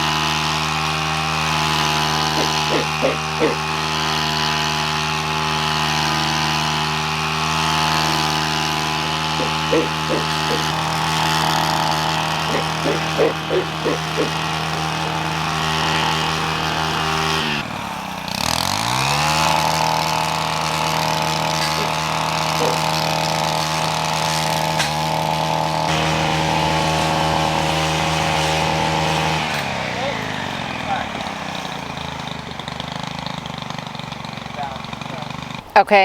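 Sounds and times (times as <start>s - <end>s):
string trimmer engine revving: 0.0s - 36.0s.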